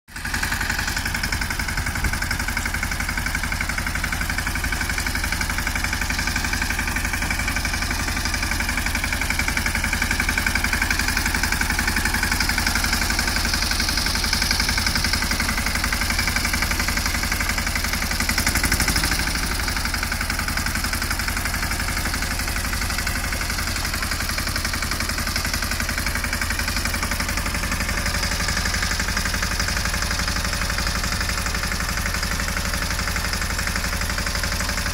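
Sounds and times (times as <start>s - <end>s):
tractor engine idling: 0.1s - 34.9s.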